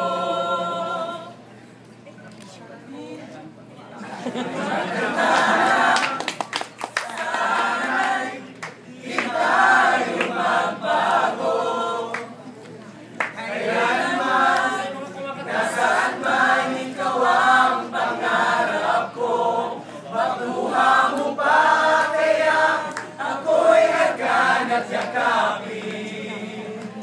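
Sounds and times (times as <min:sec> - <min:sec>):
group singing in chorus: 0:00.0 - 0:01.5, 0:04.3 - 0:06.3, 0:07.0 - 0:12.4, 0:13.2 - 0:27.0.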